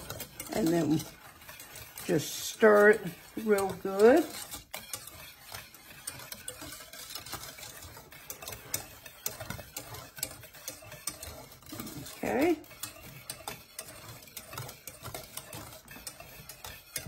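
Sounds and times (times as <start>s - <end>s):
whisk scraping a metal saucepan: 0.0s - 17.0s.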